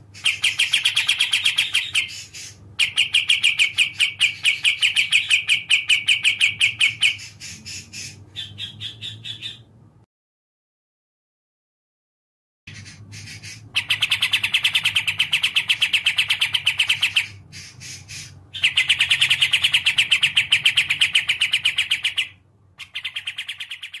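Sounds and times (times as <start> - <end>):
songbird singing fast trills: 0.2 - 9.7, 12.7 - 24.0.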